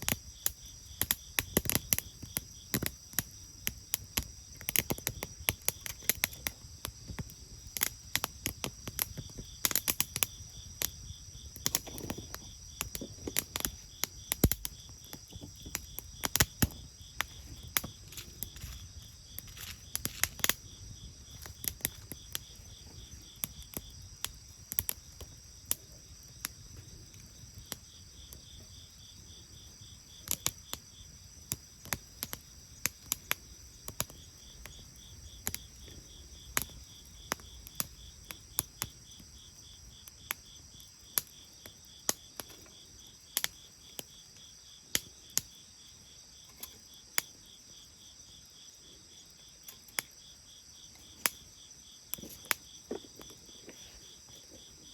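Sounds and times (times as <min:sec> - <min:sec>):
bonfire crackling and popping: 0:00.0 - 0:45.8, 0:49.2 - 0:54.9
crickets chirping: 0:00.0 - 0:54.9.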